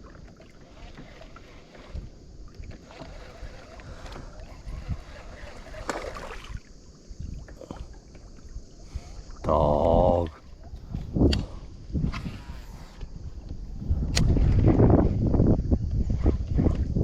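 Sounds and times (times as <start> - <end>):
knocks and handling on boat: 0.0 - 6.5, 9.3 - 17.0
wind rumble on microphone: 0.0 - 17.0.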